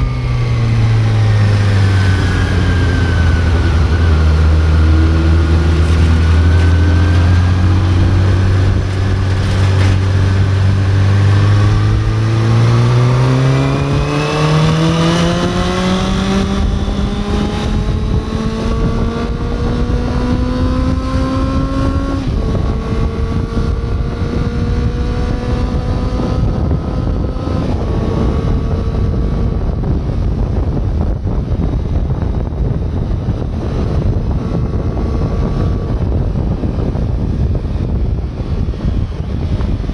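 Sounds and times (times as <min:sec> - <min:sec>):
motorcycle engine accelerating through gears: 0:00.0 - 0:39.9
wind rushing: 0:00.0 - 0:39.9.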